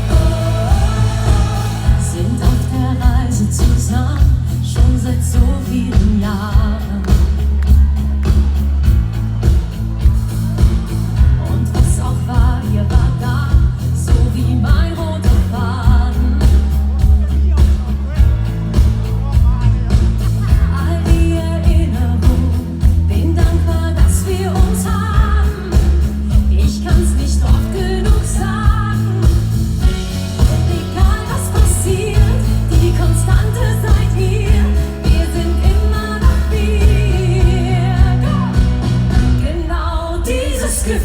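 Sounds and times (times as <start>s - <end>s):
live pop band playing: 0.0s - 41.0s.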